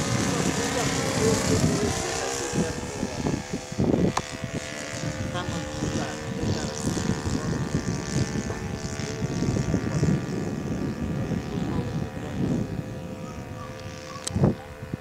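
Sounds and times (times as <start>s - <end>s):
model plane engine droning: 0.0s - 15.0s
wind buffeting microphone: 0.0s - 15.0s.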